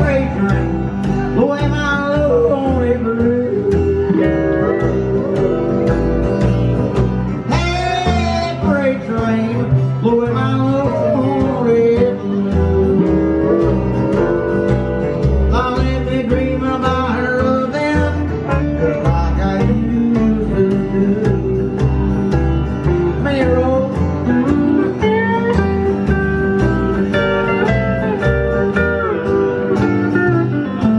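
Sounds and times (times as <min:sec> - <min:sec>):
country band playing: 0:00.0 - 0:30.9
drums: 0:00.0 - 0:30.9
strummed acoustic guitar: 0:00.0 - 0:30.9
upright bass: 0:00.0 - 0:30.9
steel guitar sliding: 0:02.3 - 0:08.6, 0:09.4 - 0:17.6, 0:18.2 - 0:30.9.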